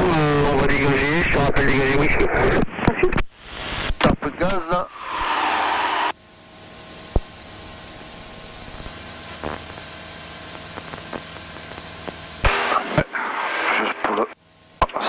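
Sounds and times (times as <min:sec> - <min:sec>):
propeller aircraft cabin drone: 0:00.0 - 0:14.9
thin high whine: 0:00.0 - 0:15.0.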